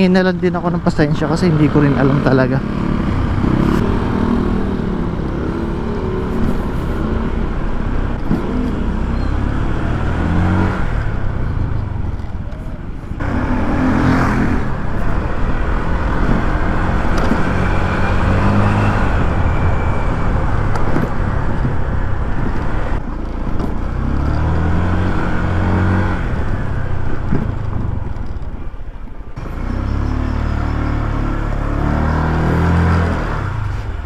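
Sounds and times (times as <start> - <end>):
road traffic: 0.0 - 34.0
scooter engine running: 0.0 - 34.0.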